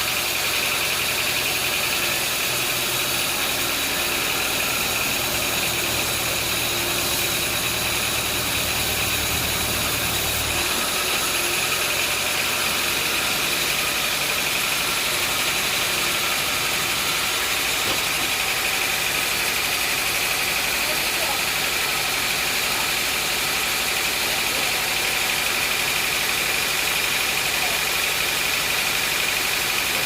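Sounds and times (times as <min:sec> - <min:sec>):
engine low rumble: 0:00.0 - 0:30.0
engine high whine: 0:00.1 - 0:26.8.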